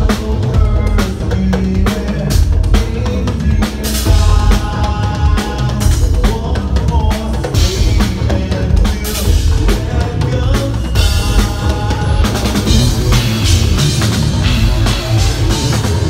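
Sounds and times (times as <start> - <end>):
drum kit pounding: 0.0 - 16.0
metal band playing: 0.0 - 16.0
singer's vocals: 0.0 - 16.0.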